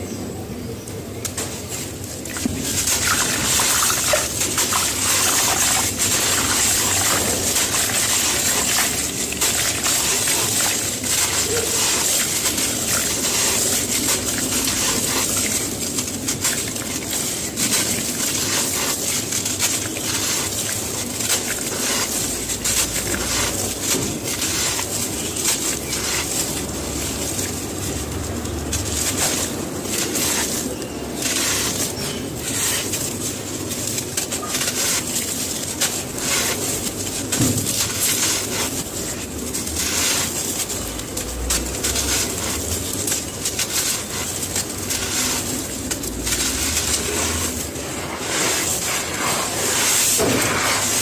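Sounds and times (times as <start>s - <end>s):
cement crumbling crackle: 0.9s - 51.0s
water splashing and trickling: 1.3s - 51.0s.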